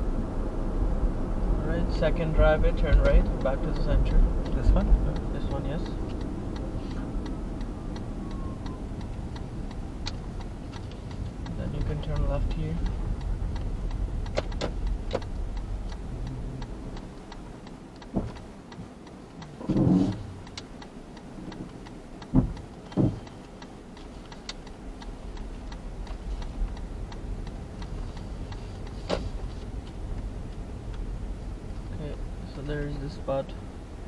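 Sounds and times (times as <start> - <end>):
engine and road hum: 0.0 - 34.0
car turn signal ticking: 1.9 - 34.0.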